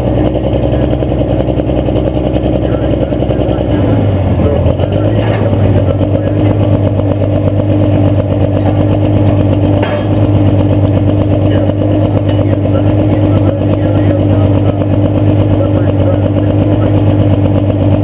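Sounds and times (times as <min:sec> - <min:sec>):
tractor engine running loudly: 0:00.0 - 0:18.0.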